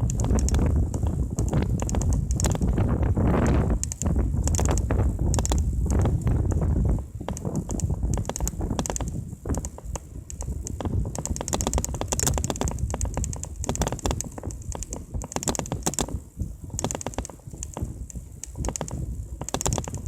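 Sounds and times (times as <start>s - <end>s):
bike tyres rumbling on pavement: 0.0s - 20.0s
mountain bike rattling clicks: 0.0s - 20.0s.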